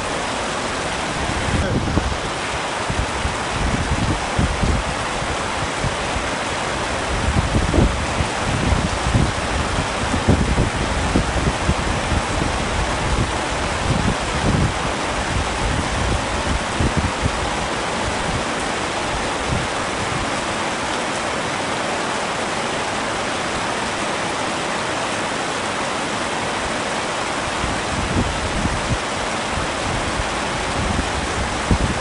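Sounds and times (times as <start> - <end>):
heavy rain on a tent: 0.0 - 32.0.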